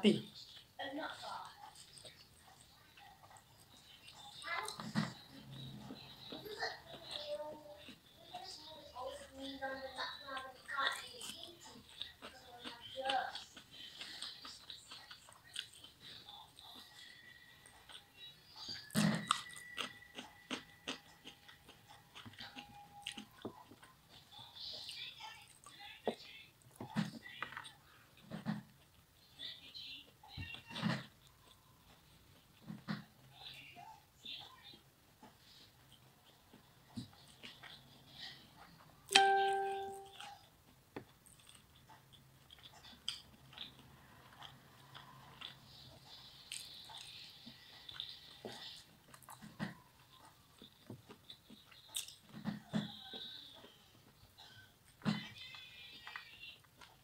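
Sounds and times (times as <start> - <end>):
person chewing food: 0.3 - 57.0.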